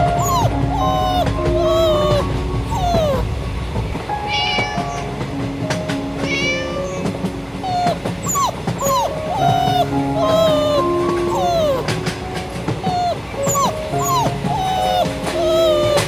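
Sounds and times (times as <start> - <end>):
small animal whining cries: 0.0 - 3.3, 4.2 - 5.2, 6.2 - 12.1, 12.8 - 16.0
steady held tones: 0.0 - 16.0
train rumble: 0.0 - 16.0.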